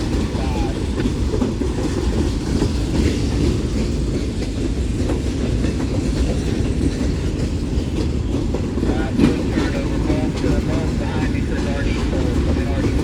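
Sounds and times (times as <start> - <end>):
wheels clicking over rail joints: 0.0 - 11.0
train wheels rumbling on rail: 0.0 - 13.0.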